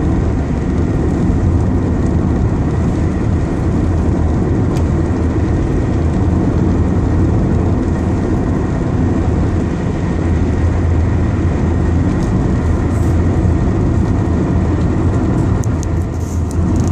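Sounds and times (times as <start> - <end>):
car engine rumble: 0.0 - 16.9.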